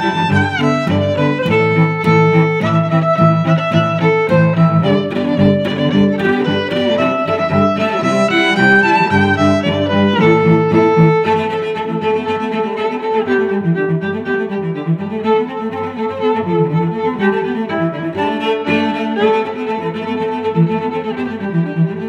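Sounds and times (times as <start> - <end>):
bowed strings music: 0.0 - 22.0.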